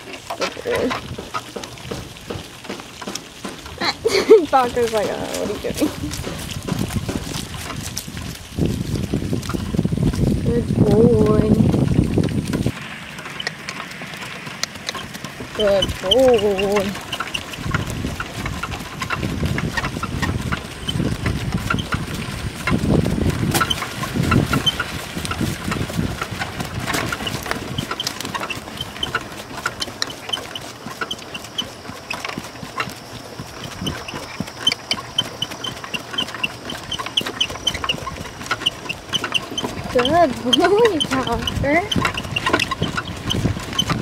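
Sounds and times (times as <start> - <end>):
cart rattling and creaking: 0.0 - 44.0.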